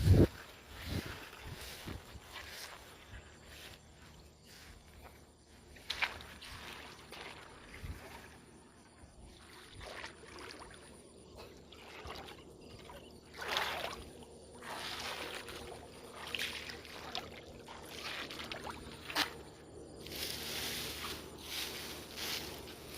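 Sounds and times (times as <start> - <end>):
water splashing and sloshing: 0.1 - 22.9.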